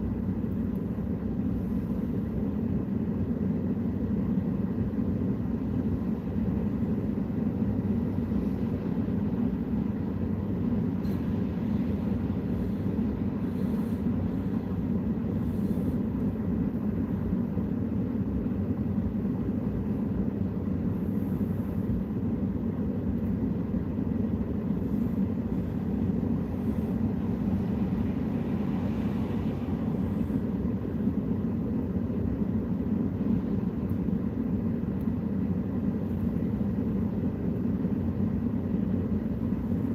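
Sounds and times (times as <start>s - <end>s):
low rumble of vehicle: 0.0s - 39.9s.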